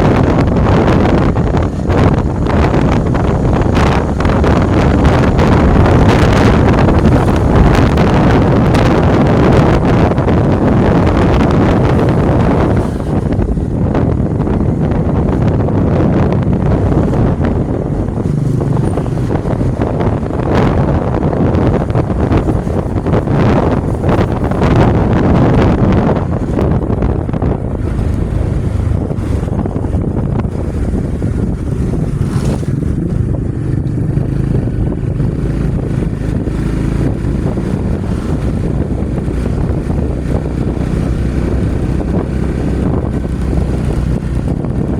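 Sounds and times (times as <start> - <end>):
motorcycle engine: 0.0 - 44.9
wind buffeting microphone: 0.0 - 44.9.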